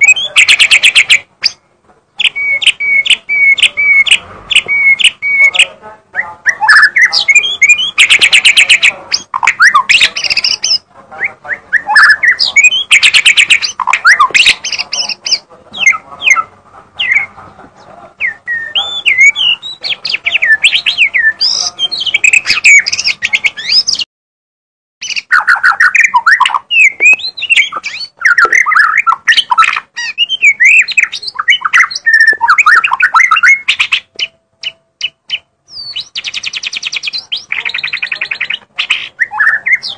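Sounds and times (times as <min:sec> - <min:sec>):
songbird whistles and trills: 0:00.0 - 0:01.6, 0:02.2 - 0:24.1, 0:25.0 - 0:39.9.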